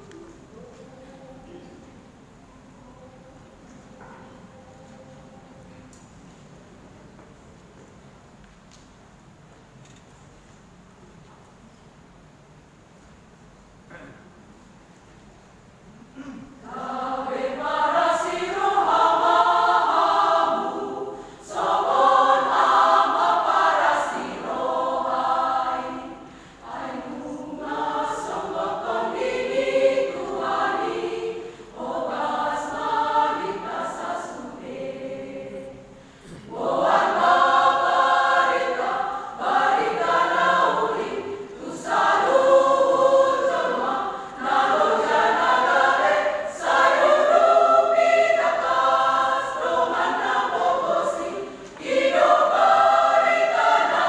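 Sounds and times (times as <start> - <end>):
church choir singing a hymn: 0.0 - 6.1, 16.2 - 54.0.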